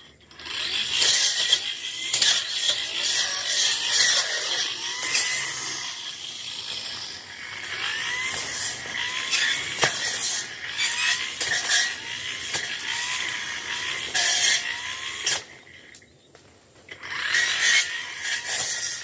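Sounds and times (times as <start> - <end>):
petrol brush cutter cutting brush: 0.0 - 16.1, 16.9 - 19.0.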